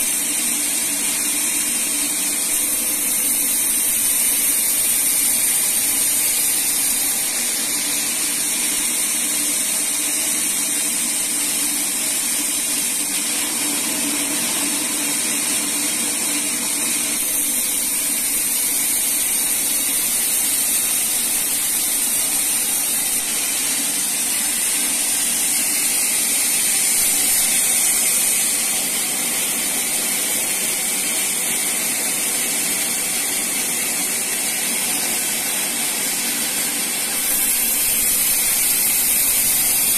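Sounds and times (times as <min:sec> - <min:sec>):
saw blade hissing through wood: 0:00.0 - 0:39.9
sawmill machine hum: 0:00.0 - 0:39.9.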